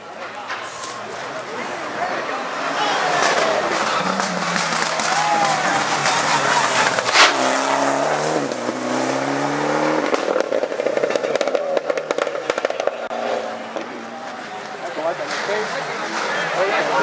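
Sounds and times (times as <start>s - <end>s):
crackling exhaust pops: 0.1s - 17.0s
rally car engine accelerating: 0.8s - 17.0s.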